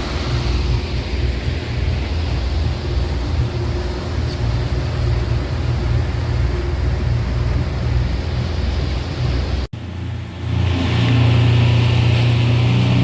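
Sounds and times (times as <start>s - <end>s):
boat engine droning: 0.0s - 13.0s
water rushing in boat wake: 0.0s - 13.0s.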